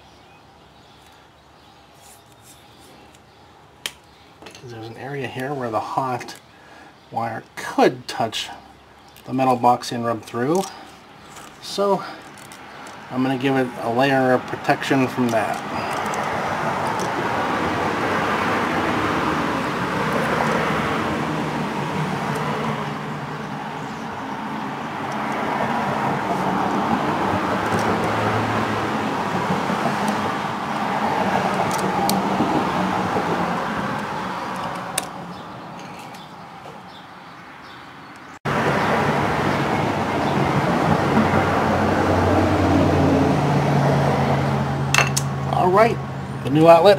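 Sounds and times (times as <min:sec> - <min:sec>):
road traffic noise: 0:00.0 - 0:46.9.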